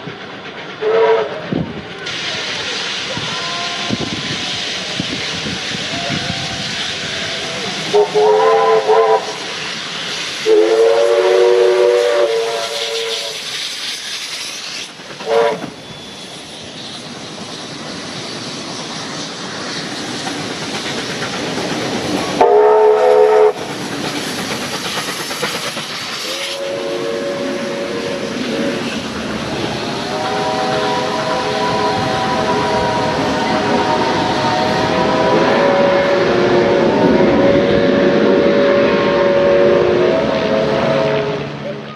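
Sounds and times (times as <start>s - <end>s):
rumble and exhaust of trains: 0.0s - 41.9s
steam locomotive whistles blowing: 0.1s - 17.9s, 22.2s - 41.9s.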